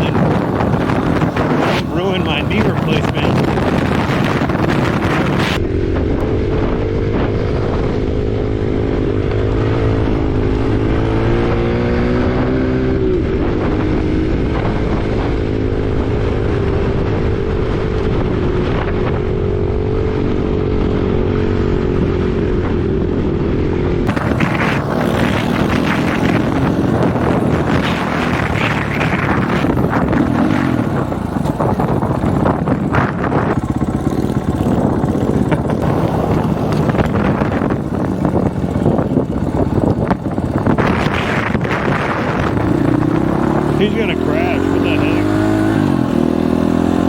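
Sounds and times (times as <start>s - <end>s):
dirt bike engine running: 0.0s - 47.0s
wind buffeting microphone: 0.0s - 47.0s.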